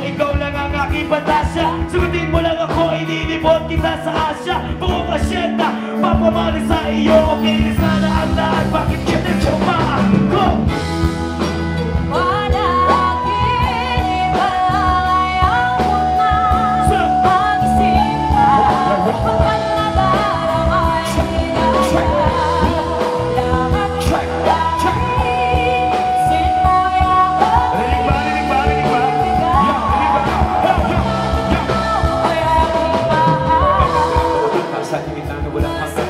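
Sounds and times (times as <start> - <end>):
live band music: 0.0 - 36.0.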